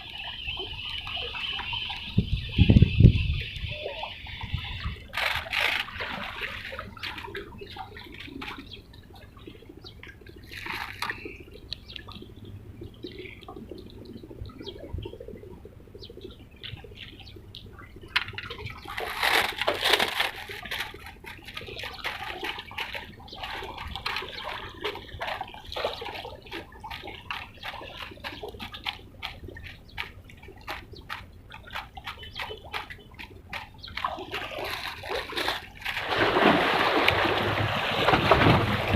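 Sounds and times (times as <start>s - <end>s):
water splashing and lapping: 0.0s - 38.9s.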